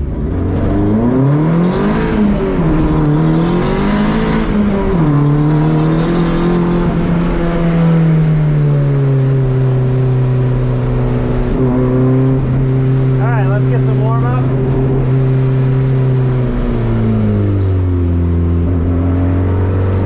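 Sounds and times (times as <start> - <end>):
race car engine: 0.0 - 20.0.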